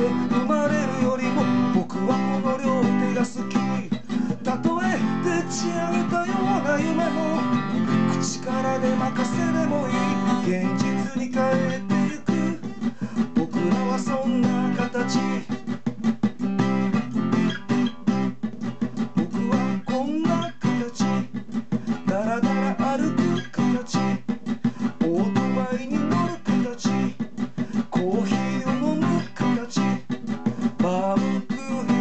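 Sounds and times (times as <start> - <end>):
man singing: 0.0 - 15.7, 19.0 - 32.0
acoustic guitar strumming: 0.0 - 32.0.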